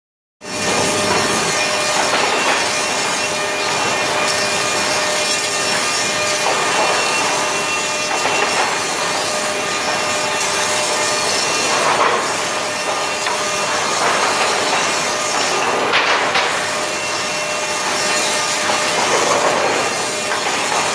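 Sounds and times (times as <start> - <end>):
loud machine noise: 0.4 - 20.9.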